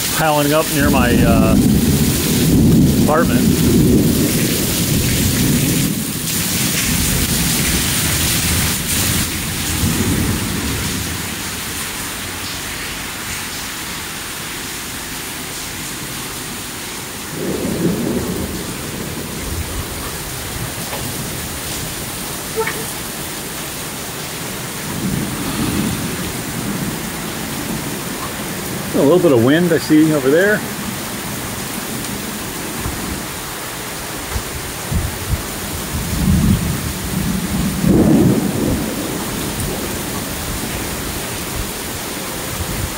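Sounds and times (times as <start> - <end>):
thunder rumbling: 0.0 - 11.5, 17.2 - 33.3, 34.4 - 42.9
rain hissing: 0.0 - 42.9.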